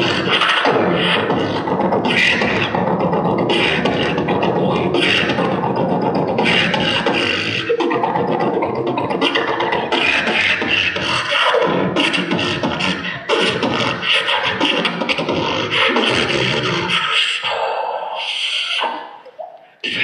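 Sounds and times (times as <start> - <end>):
low vocal bass sounds: 0.0 - 17.1
beatboxing vocal percussion: 0.0 - 20.0.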